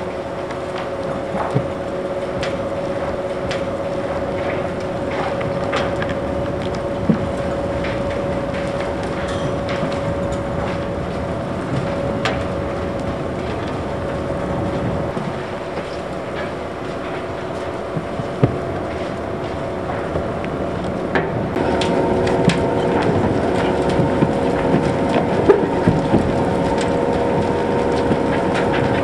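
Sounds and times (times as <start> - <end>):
excavator mechanical drone: 0.0 - 29.0.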